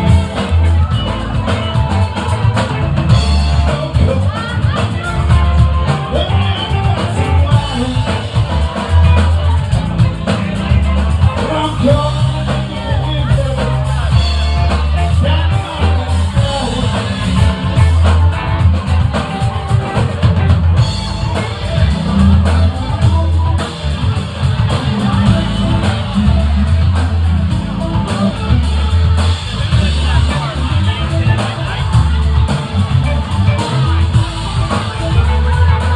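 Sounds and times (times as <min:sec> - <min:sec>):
live rock band playing: 0:00.0 - 0:35.9.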